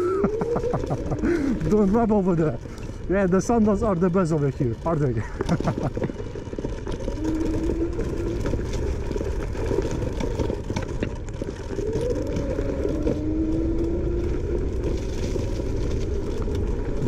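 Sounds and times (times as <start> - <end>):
electric scooter motor whine: 0.0 - 17.0
low rumble: 0.0 - 17.0.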